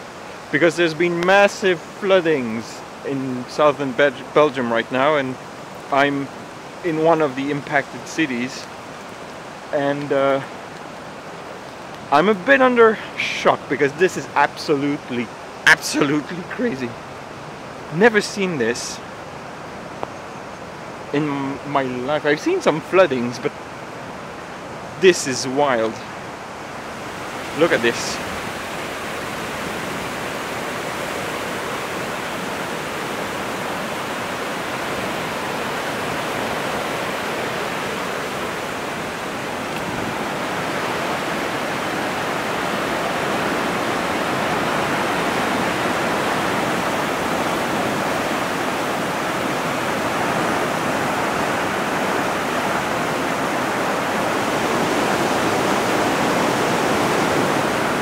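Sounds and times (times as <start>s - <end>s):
turbulent river water rushing: 0.0s - 20.0s, 20.6s - 58.0s.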